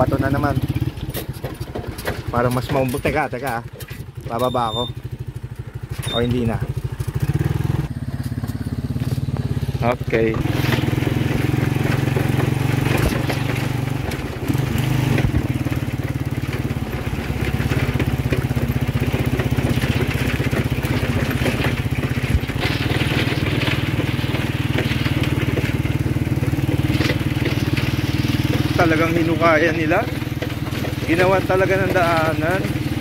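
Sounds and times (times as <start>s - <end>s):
motorcycle engine running: 0.0s - 33.0s
sharp knocks from rough ground: 0.0s - 33.0s.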